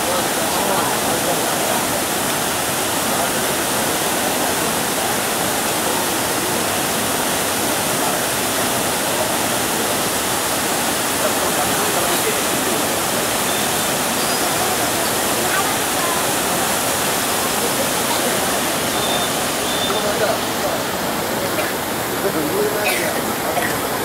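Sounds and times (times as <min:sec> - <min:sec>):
water rushing over weir: 0:00.0 - 0:24.0.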